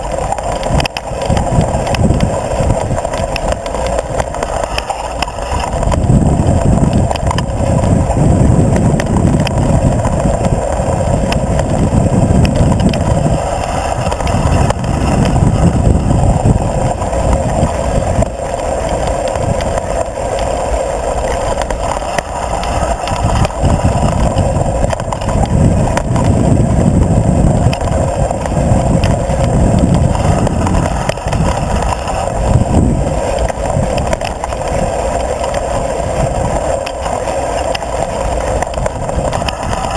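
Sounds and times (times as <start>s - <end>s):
bike rattles and clicks: 0.0s - 39.9s
bike tyres rumbling over dirt: 0.0s - 39.9s
wind buffeting on microphone: 0.0s - 39.9s.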